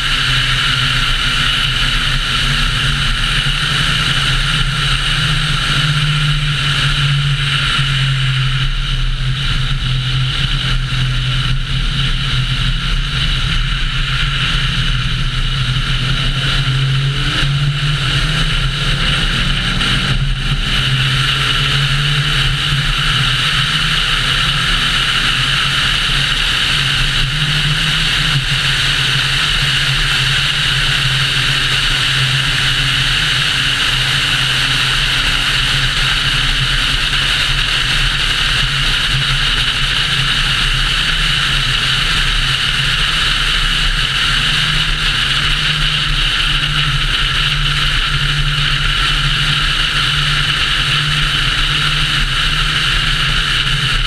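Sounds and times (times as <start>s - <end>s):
low engine drone: 0.0s - 54.0s
road and wind noise: 0.0s - 54.0s.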